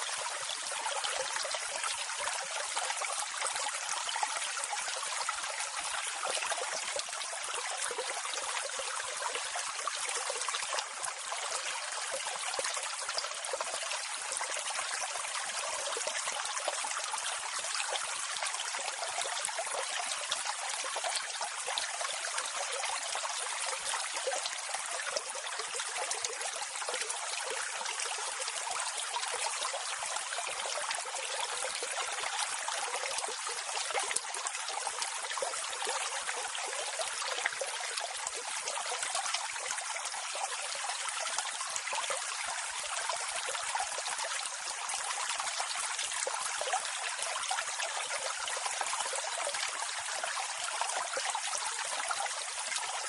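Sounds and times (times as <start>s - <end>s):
small waterfall splashing: 0.0s - 53.0s.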